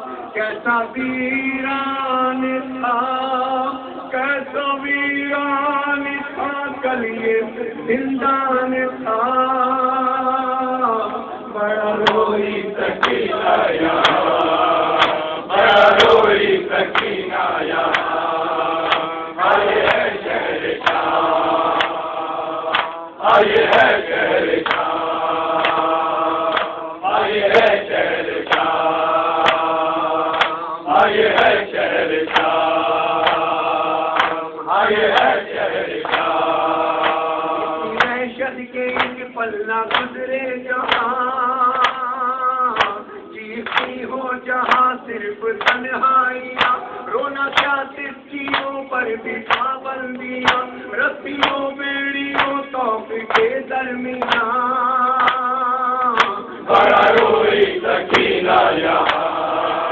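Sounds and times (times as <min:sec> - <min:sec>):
men chanting together: 0:11.1 - 0:59.9.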